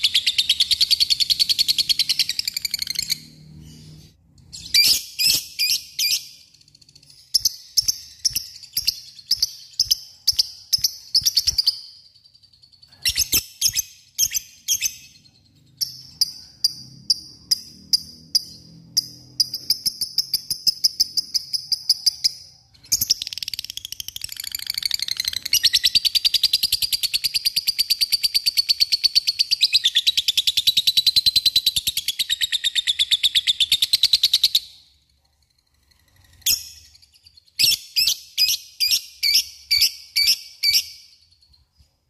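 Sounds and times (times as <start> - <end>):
bird sharp chirps: 0.0 - 41.6.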